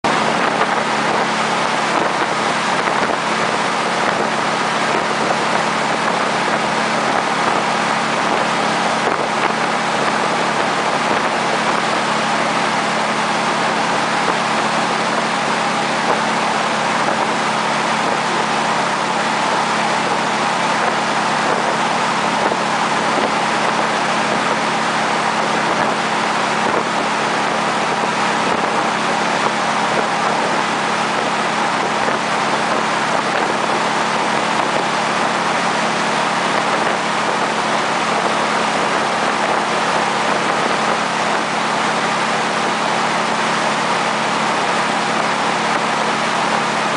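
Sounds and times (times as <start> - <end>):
jet boat engine drone: 0.0 - 46.9
rushing boat wake: 0.0 - 46.9.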